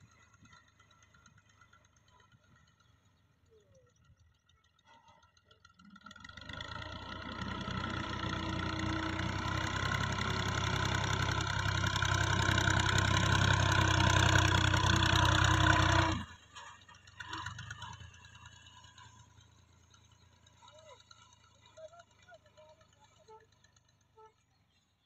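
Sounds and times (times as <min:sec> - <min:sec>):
diesel tractor engine running: 0:00.0 - 0:25.0.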